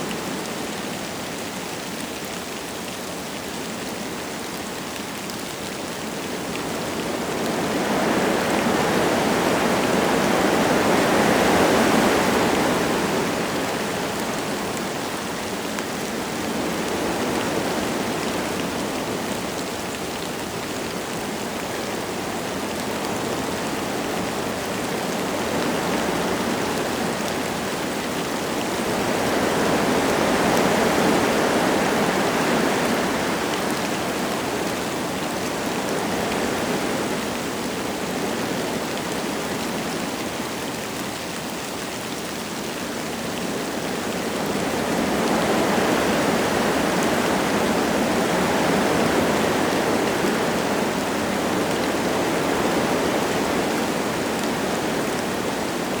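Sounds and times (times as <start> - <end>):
light rain falling: 0.0 - 56.0
wind gusting through trees: 0.0 - 56.0.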